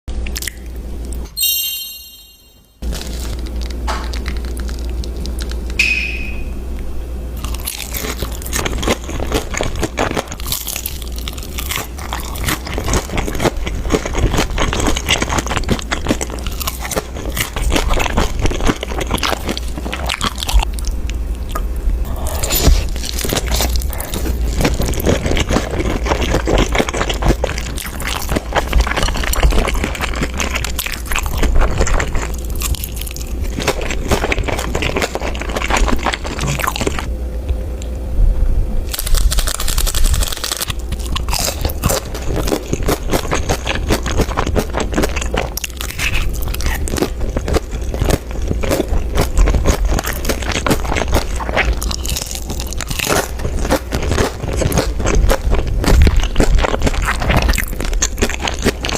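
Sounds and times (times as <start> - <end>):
person crunching and chewing: 0.2 - 1.3, 2.8 - 5.8, 7.4 - 37.1, 38.9 - 58.9.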